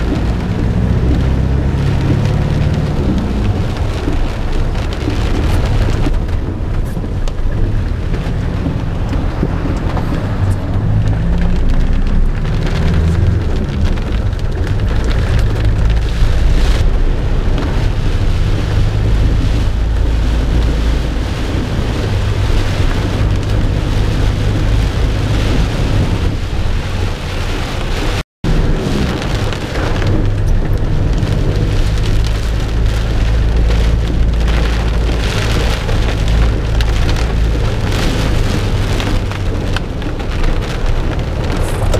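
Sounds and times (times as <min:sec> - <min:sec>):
deep thunder rumble: 0:00.0 - 0:41.9
heavy rain: 0:00.0 - 0:41.9.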